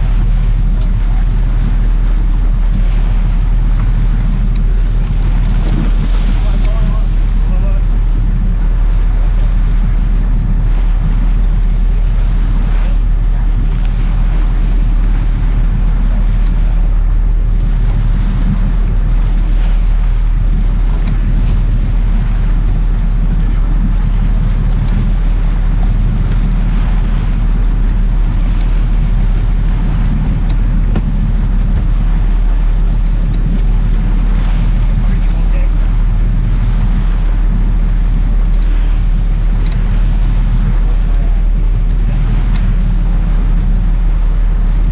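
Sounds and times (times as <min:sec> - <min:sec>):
boat engine rumbling: 0:00.0 - 0:44.9
water splashing against hull: 0:00.0 - 0:44.9
wind buffeting microphone: 0:00.0 - 0:44.9.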